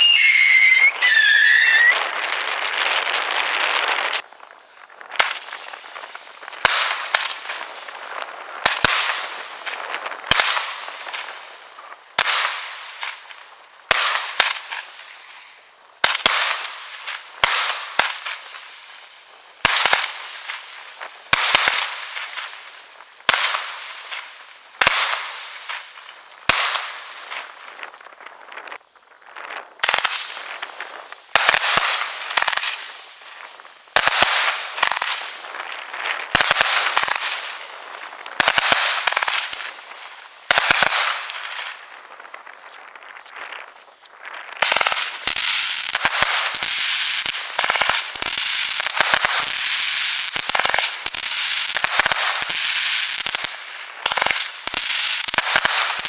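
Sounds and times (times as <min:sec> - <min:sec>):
fireworks bursting with bangs: 0:00.0 - 0:56.0
fireworks crackle: 0:00.0 - 0:56.0.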